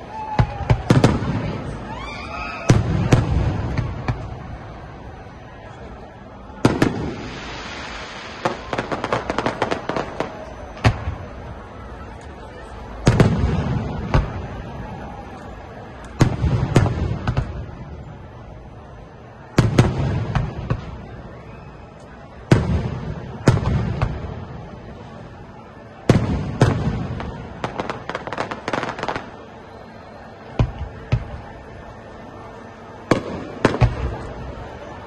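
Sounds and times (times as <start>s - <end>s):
fireworks bursting with bangs: 0.0s - 5.4s, 6.5s - 35.0s.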